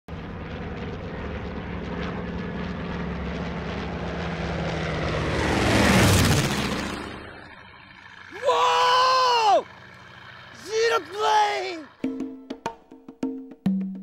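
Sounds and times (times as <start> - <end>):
propeller plane flying past: 0.1 - 12.3.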